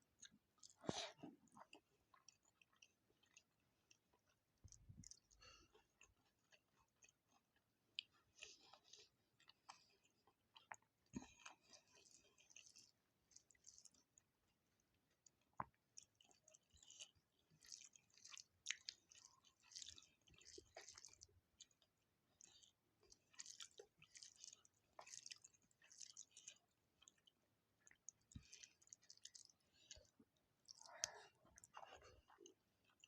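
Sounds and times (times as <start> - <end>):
close chewing: 0.2 - 33.0.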